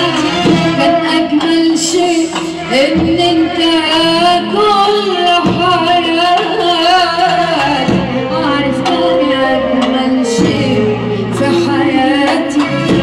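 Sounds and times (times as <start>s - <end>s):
frame drums: 0.0s - 4.2s, 5.1s - 13.0s
band playing: 0.0s - 13.0s
woman singing ornamented melody: 0.0s - 13.0s.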